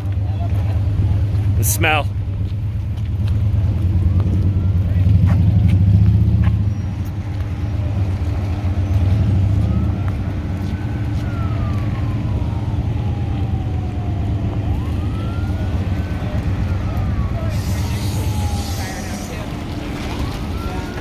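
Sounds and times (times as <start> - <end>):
emergency vehicle siren wailing: 0.0 - 2.1, 2.7 - 21.0.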